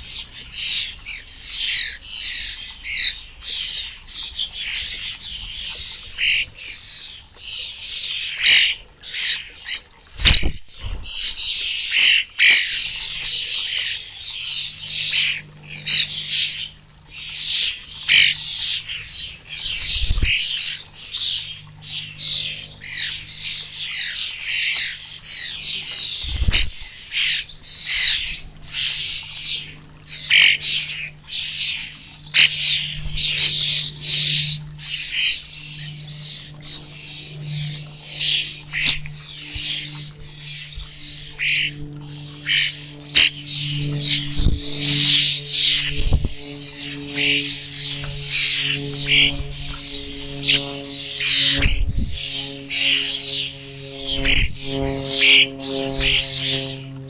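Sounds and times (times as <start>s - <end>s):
starling chicks begging calls: 0.0s - 57.0s.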